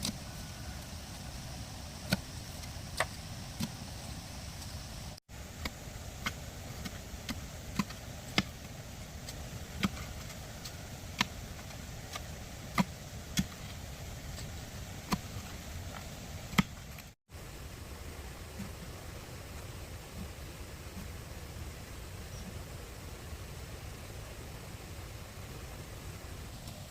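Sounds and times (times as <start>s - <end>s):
steady background hiss: 0.0s - 26.9s.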